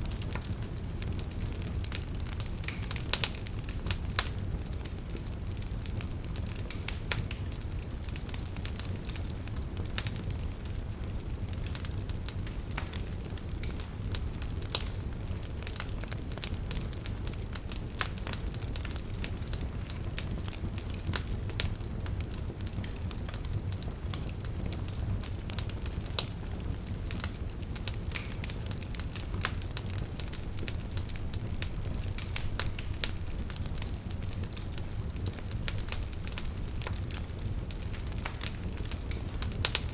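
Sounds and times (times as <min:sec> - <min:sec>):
fire crackles and pops: 0:00.0 - 0:39.9
fire flames rumbling: 0:00.0 - 0:39.9.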